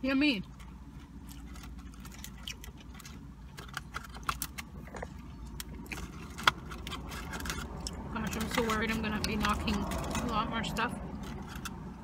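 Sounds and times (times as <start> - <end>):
steady low hum: 0.0 - 12.0
food packaging crinkling: 0.6 - 10.3.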